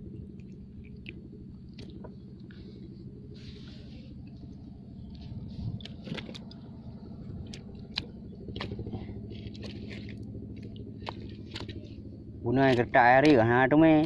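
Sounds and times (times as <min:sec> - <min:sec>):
small engine humming: 0:00.0 - 0:13.9.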